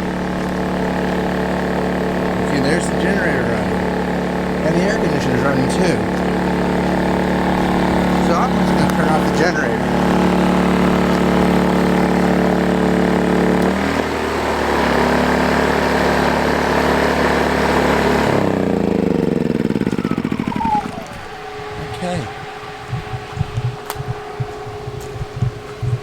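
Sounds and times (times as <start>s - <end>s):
air conditioner fan hum: 0.0s - 26.0s
generator engine running: 0.0s - 26.0s
generator winding down: 0.0s - 26.0s.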